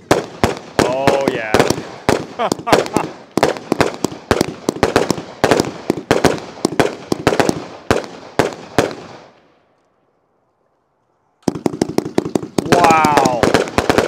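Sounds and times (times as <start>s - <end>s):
firework cake firing: 0.0s - 9.4s, 11.4s - 14.0s.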